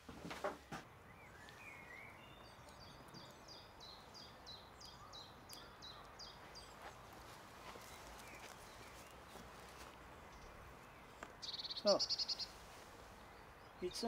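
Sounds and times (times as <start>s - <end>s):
faint outdoor hiss: 0.0s - 14.0s
songbird singing faintly: 0.3s - 14.0s.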